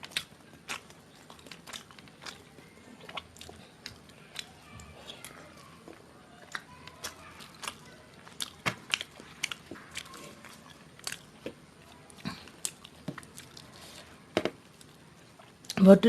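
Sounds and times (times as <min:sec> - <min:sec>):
person chewing food: 0:00.0 - 0:15.8.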